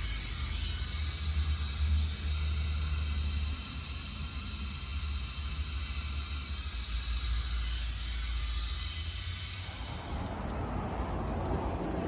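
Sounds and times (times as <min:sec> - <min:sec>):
water hissing from leaking pipe: 0:00.0 - 0:12.0.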